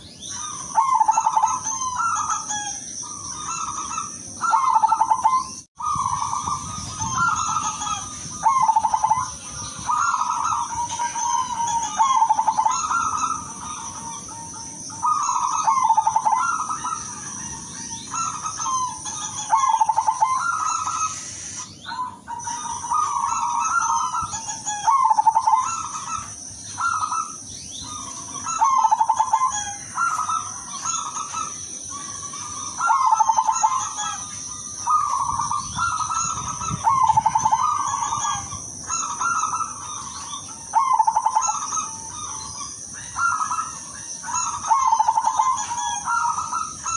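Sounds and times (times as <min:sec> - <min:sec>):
dove cooing song: 0:00.0 - 0:46.9.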